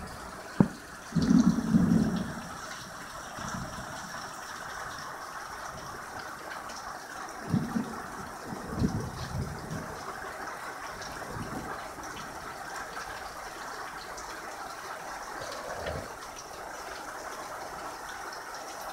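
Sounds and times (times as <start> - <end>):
heavy rain: 0.0 - 18.9.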